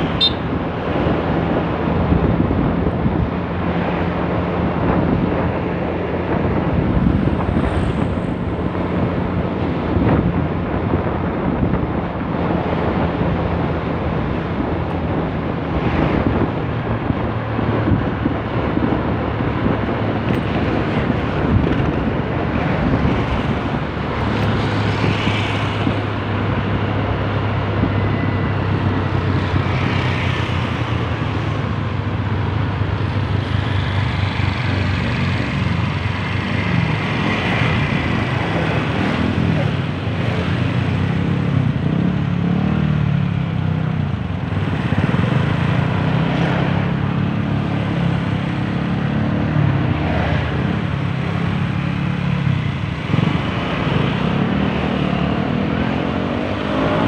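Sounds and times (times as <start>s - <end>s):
wind rush on microphone: 0.0s - 57.0s.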